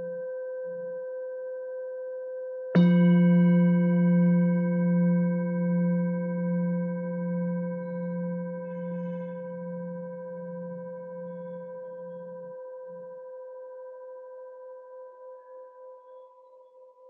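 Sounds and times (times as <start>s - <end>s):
singing bowl ringing: 2.8s - 16.9s.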